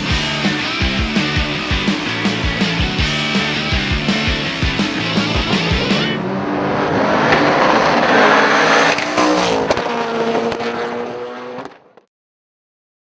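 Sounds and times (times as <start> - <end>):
car engine revving high: 0.0 - 11.9.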